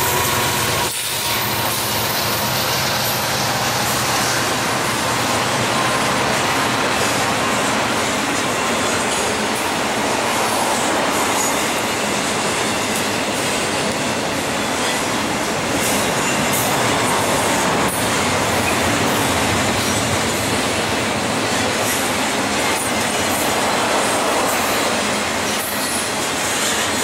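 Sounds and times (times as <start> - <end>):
steel train wheels on rail: 0.0 - 27.0.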